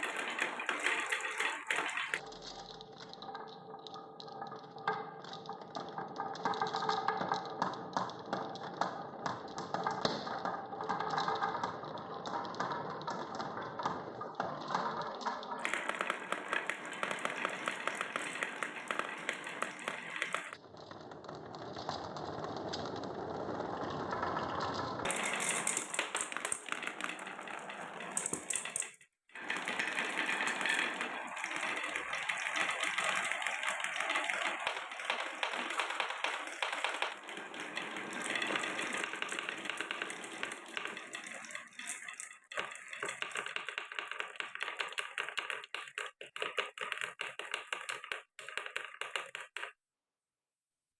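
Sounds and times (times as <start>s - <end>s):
marbles rolling on wooden tracks: 0.0s - 49.8s.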